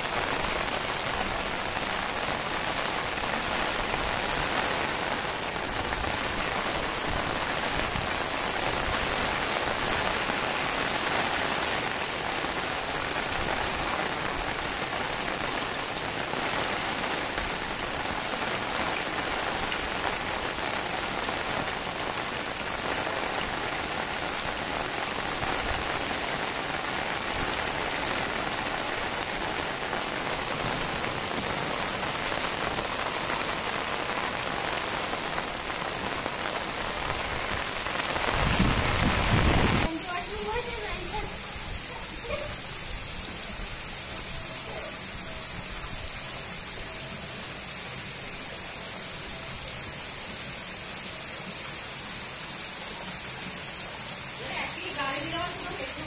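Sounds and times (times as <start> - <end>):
heavy rain on concrete roof: 0.0 - 56.0.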